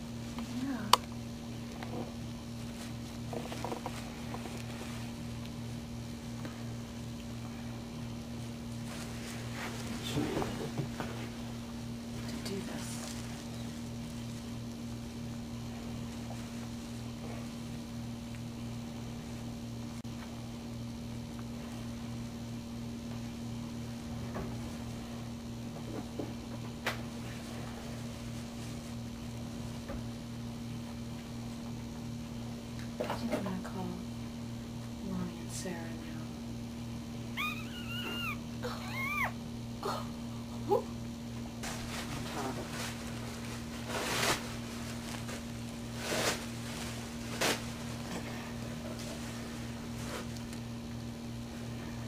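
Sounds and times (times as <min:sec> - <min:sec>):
machine hum with low throb: 0:00.0 - 0:52.0.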